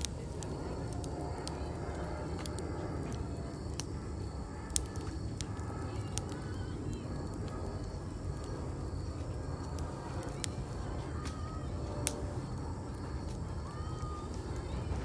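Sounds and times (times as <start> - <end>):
rush of flames: 0.0 - 15.0
wood popping and crackling: 0.0 - 15.0.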